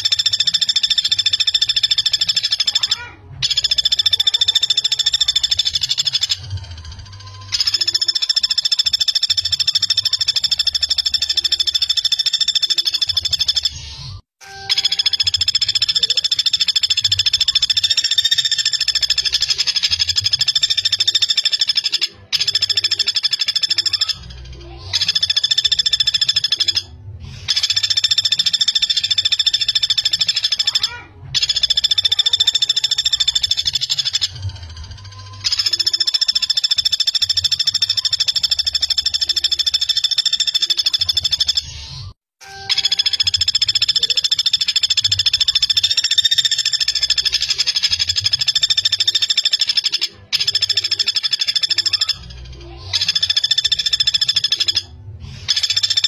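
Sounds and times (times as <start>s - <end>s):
woodpecker rattling trills: 0.0s - 56.0s.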